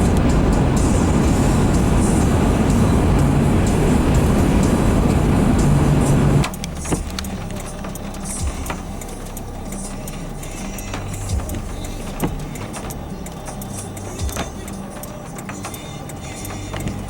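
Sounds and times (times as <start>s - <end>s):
car interior road and wind rush: 0.0s - 17.0s.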